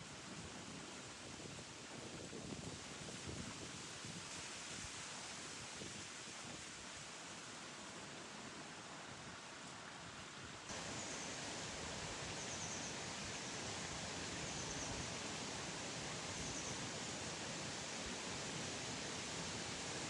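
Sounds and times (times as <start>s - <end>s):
outdoor background hiss: 3.1s - 20.0s.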